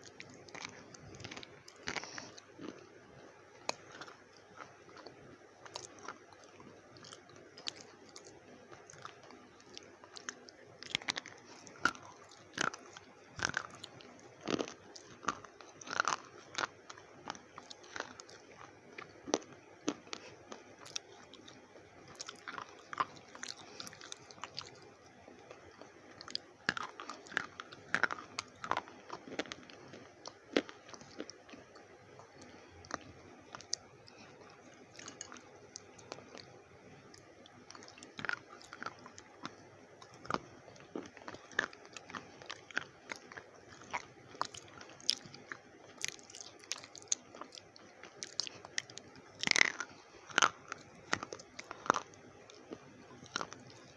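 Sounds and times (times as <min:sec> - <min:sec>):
slate crunching between teeth: 0:00.0 - 0:03.0, 0:03.6 - 0:53.9.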